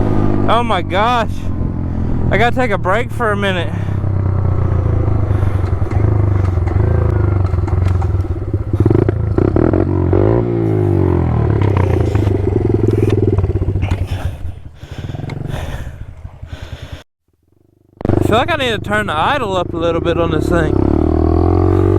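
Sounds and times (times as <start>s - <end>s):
small motorcycle engine revving: 3.1s - 17.0s, 17.6s - 21.9s.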